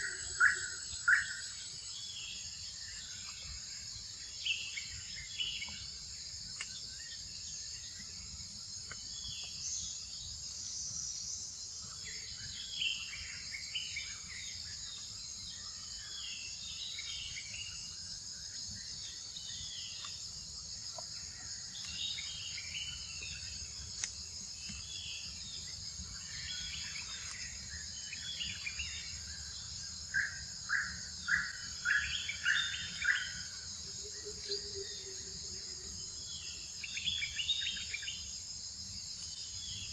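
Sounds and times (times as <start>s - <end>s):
insect chirping calls: 0.0s - 39.9s
insect chorus: 0.0s - 39.9s.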